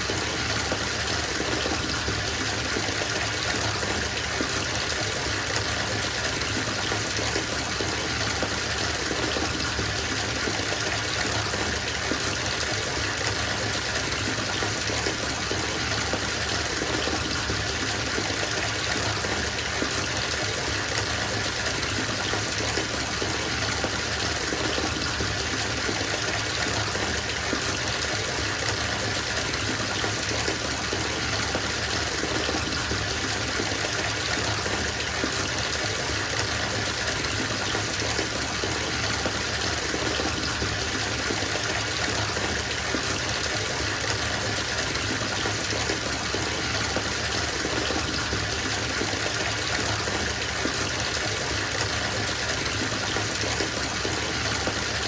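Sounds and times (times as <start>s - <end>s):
water pouring into bathtub: 0.0s - 55.0s.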